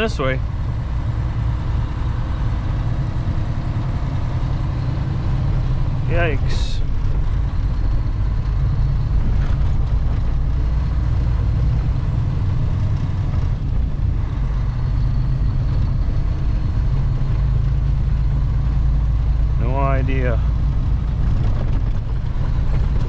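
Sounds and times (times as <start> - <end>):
truck diesel engine and tyres rumble: 0.0 - 23.0.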